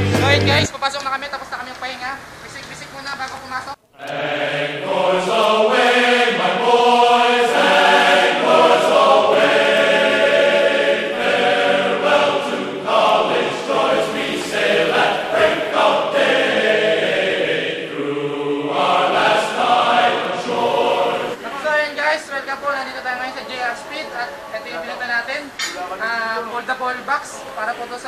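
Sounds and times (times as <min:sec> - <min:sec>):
choir singing with background music: 0:04.0 - 0:21.7, 0:22.4 - 0:28.0.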